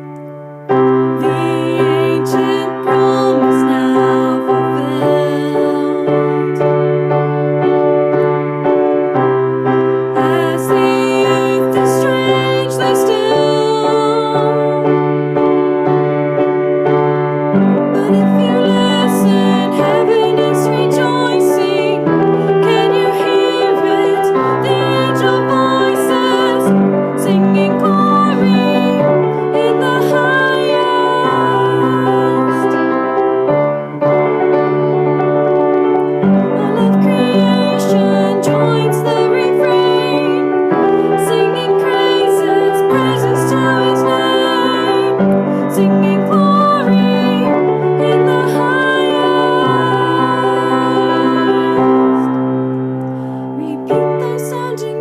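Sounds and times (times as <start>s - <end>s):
woman singing with vibrato: 1.2s - 6.8s, 10.1s - 15.4s, 17.6s - 33.5s, 36.2s - 52.4s, 53.6s - 55.0s
instrumental accompaniment chords: 4.4s - 53.6s.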